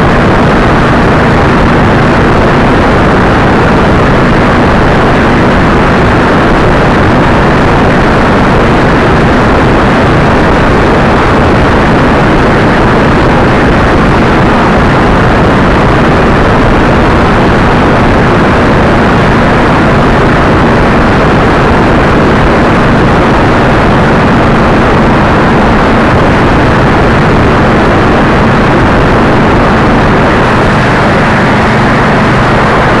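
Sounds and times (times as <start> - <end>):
motorcycle engine drone: 0.0 - 33.0
wind rushing over microphone: 0.0 - 33.0.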